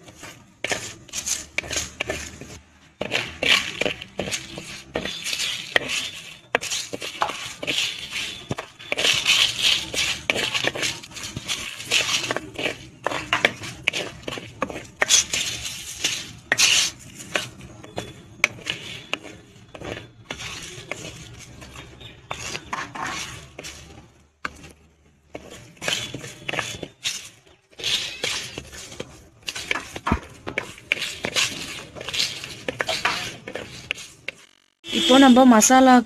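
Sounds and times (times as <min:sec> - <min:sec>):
seeds rattling against pot: 0:00.0 - 0:24.7, 0:25.4 - 0:34.5
spatula scraping in clay pot: 0:00.0 - 0:35.0.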